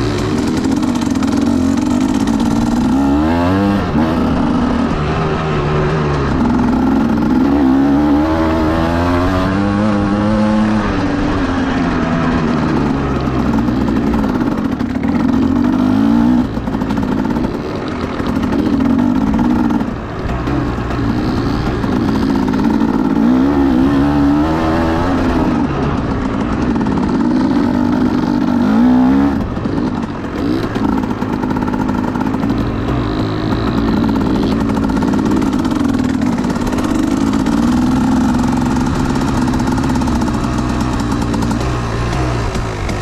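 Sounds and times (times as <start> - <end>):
vehicle engine revving through gears: 0.0 - 43.0.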